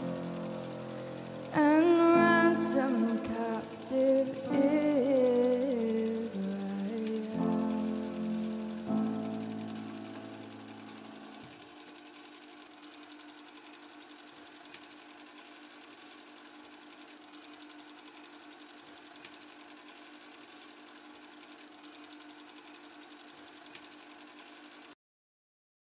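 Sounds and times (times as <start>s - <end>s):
projector hum: 0.0s - 24.9s
film projector clattering: 0.0s - 25.0s.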